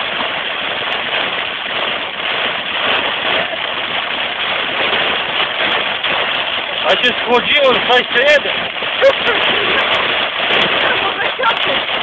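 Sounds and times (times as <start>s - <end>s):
heavy rain and road spray: 0.0s - 12.0s.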